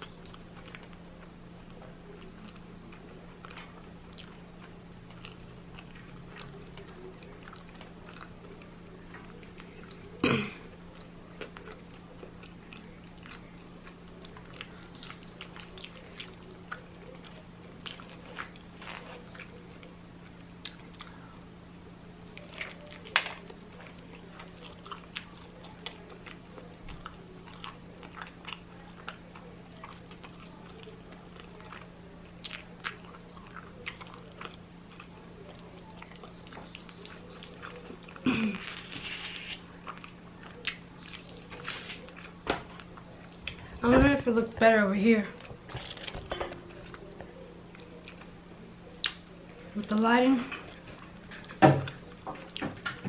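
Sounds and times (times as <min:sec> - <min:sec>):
chewing and crunching food: 0:00.0 - 0:53.0
steady low hum: 0:00.0 - 0:53.0.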